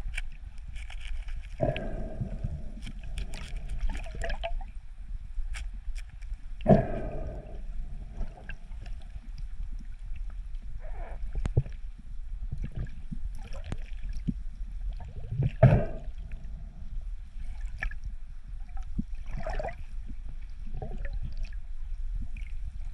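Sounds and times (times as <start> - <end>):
muffled underwater rumble: 0.0 - 22.9
water gurgling and sloshing: 0.0 - 22.9.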